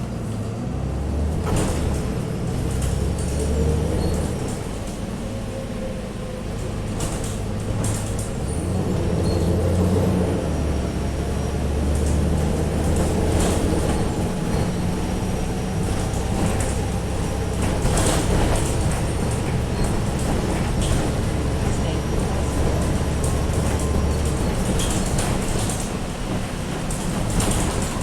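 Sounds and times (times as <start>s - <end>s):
bus diesel engine running: 0.0s - 28.0s.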